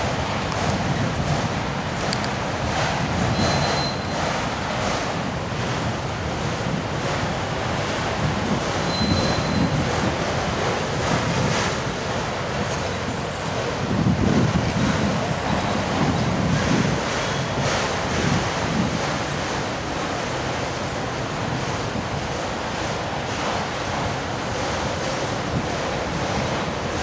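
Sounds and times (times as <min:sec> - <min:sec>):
freight train wheels rumbling on rail: 0:00.0 - 0:27.0
wind on microphone: 0:00.0 - 0:27.0.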